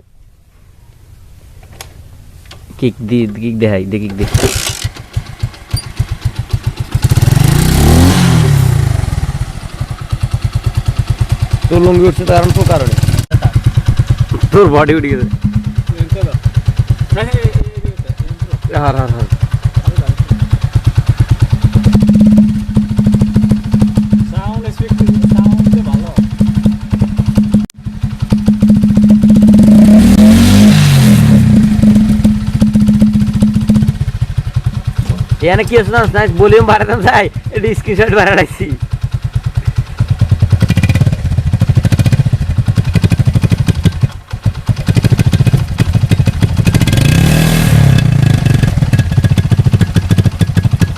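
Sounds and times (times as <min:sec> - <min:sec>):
motorcycle engine idling and revving: 0:00.0 - 0:50.9.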